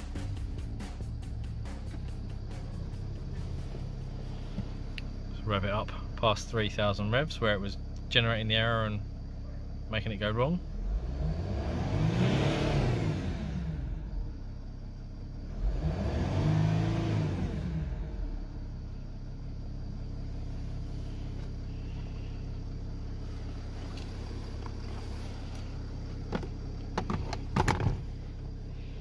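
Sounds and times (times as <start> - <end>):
diesel engine revving: 0.0 - 8.8, 10.0 - 29.0.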